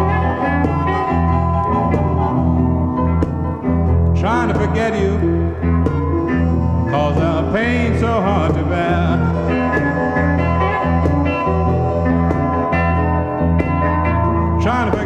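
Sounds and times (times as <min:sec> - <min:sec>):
old blues record playing: 0:00.0 - 0:15.0.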